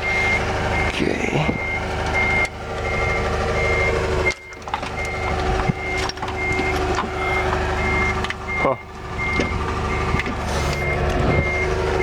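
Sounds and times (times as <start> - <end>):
reverse alarm beeping: 0.0 - 12.0.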